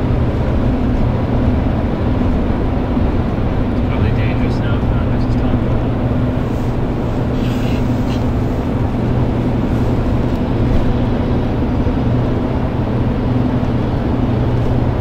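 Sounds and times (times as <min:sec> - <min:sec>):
constant low hum: 0:00.0 - 0:15.0
vehicle engine and road noise: 0:00.0 - 0:15.0.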